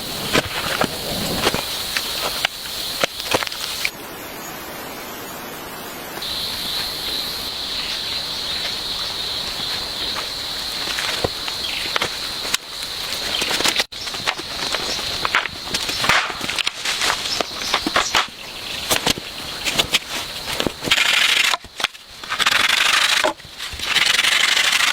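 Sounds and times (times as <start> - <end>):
crackles and rustles: 0.0 - 4.1, 6.2 - 24.9
insect chorus buzzing: 0.0 - 24.9.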